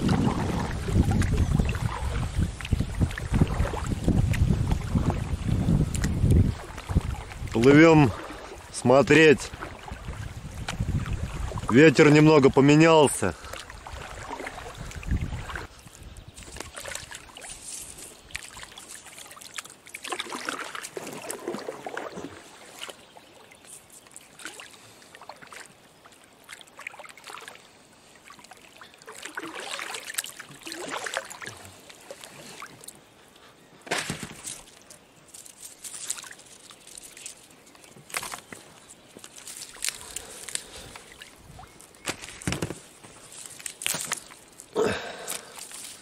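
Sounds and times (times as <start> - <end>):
oars splashing in water: 0.0 - 15.8, 16.4 - 33.1, 33.8 - 46.0
water dribbling off oars: 0.0 - 46.0.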